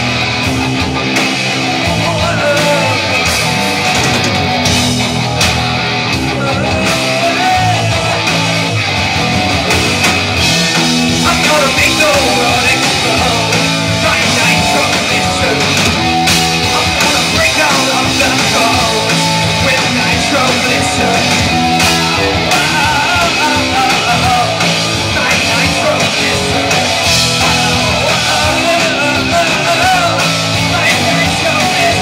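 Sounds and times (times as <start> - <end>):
bass and drums: 0.0 - 32.0
distorted electric guitars: 0.0 - 32.0
wavering lead guitar: 0.0 - 32.0.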